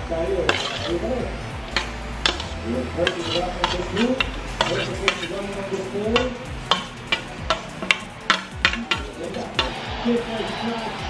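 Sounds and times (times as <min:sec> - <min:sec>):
metal spoon scraping metal plate: 0:00.2 - 0:09.9.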